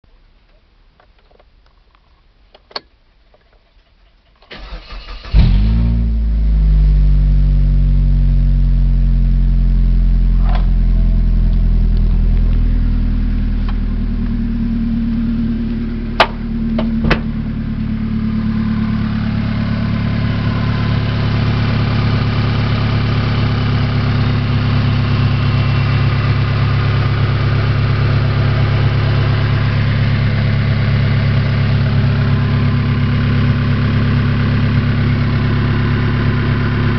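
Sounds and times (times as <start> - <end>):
car engine starting and idling: 4.4 - 36.9.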